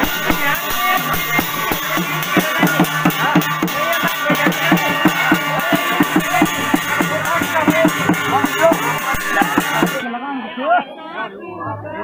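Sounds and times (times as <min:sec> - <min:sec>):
upbeat folk music with drums: 0:00.0 - 0:10.1.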